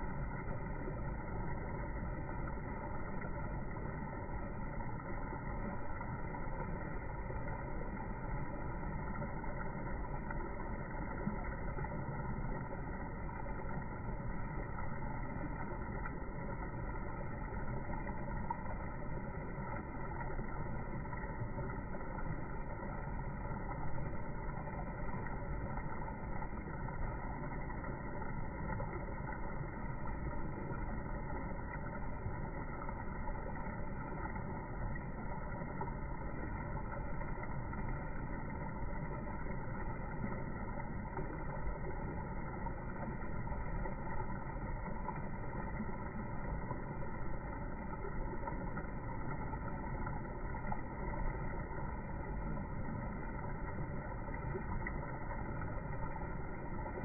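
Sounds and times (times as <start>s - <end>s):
low rushing river ambience: 0.0s - 57.0s.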